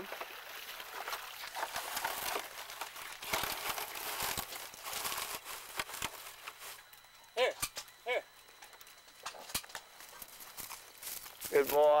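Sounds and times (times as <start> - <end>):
dry reeds rustling and crackling: 0.0 - 7.0, 9.4 - 12.0.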